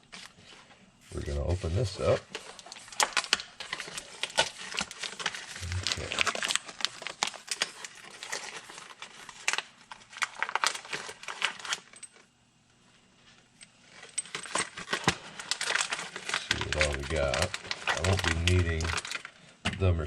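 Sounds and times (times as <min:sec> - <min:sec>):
plastic packaging crinkling and tearing: 0:00.0 - 0:12.3, 0:13.8 - 0:19.6.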